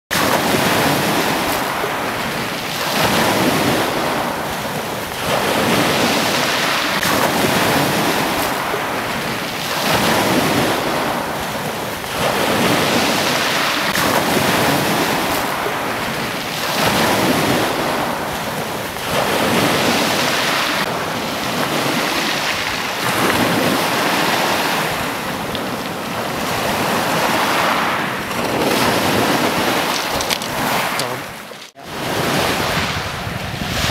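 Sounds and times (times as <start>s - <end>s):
sea waves washing: 0.1s - 33.9s
wind noise on microphone: 0.2s - 33.9s.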